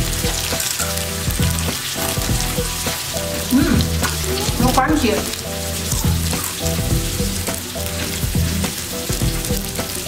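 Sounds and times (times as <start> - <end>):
background music with bass: 0.0 - 10.0
batter sizzling in hot oil: 0.0 - 10.0.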